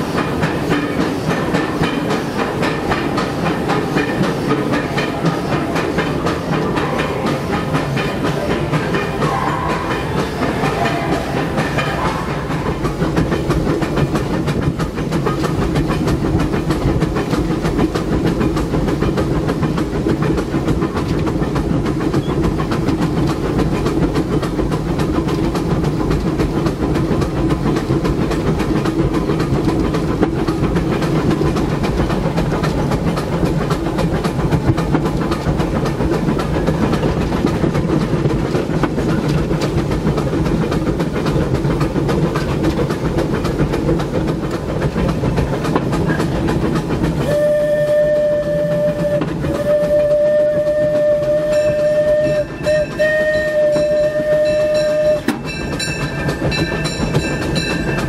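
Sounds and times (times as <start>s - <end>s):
steam locomotive rattling on track: 0.0s - 58.0s.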